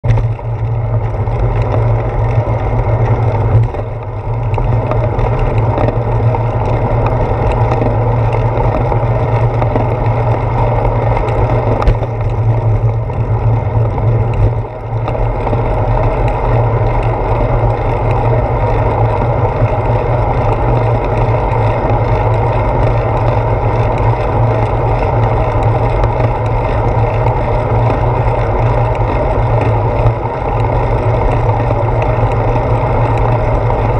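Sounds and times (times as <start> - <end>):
wind and road rumble: 0.0 - 33.9.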